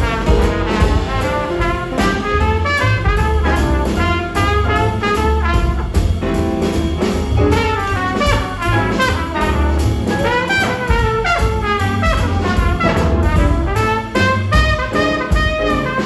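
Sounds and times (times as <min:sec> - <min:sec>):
trumpet solo: 0:00.0 - 0:06.0, 0:07.4 - 0:16.0
jazz big band playing swing: 0:00.0 - 0:16.0.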